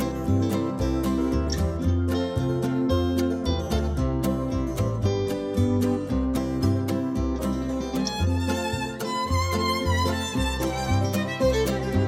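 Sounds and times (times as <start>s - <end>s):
bass: 0.0s - 12.0s
country music: 0.0s - 12.0s
strummed acoustic guitar: 0.0s - 12.0s.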